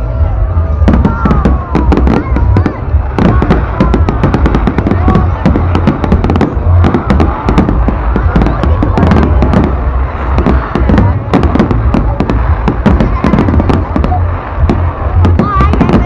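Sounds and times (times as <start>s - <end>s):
fireworks crackling bangs: 0.2s - 16.0s.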